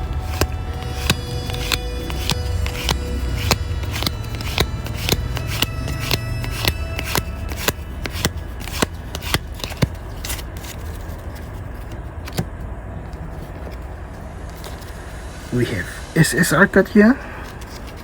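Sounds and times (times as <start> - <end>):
cards clicking and tapping: 0.0 - 15.0, 17.4 - 18.0
steady low hum: 0.0 - 18.0.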